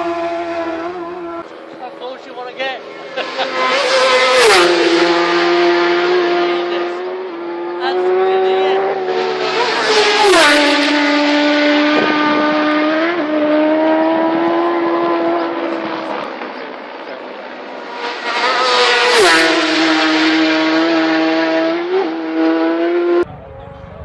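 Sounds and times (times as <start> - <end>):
racing motorcycles passing: 0.0 - 24.0.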